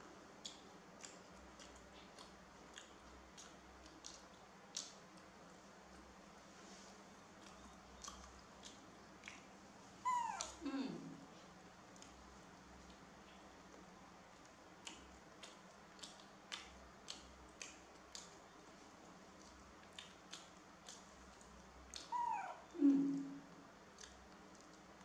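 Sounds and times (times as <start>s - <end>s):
chewing clicks and smacks: 0.3s - 6.1s, 7.3s - 10.6s, 11.9s - 22.5s, 23.9s - 25.0s.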